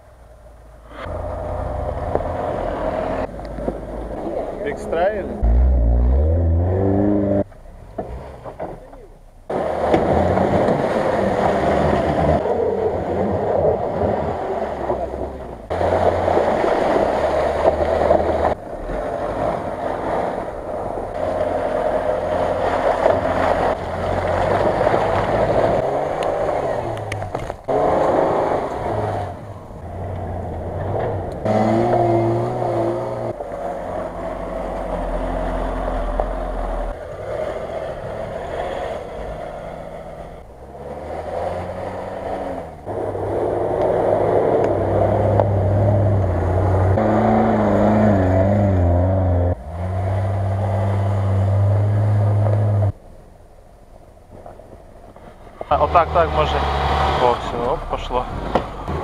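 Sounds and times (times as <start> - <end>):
off-road engines revving: 0.7 - 53.0, 55.2 - 59.0.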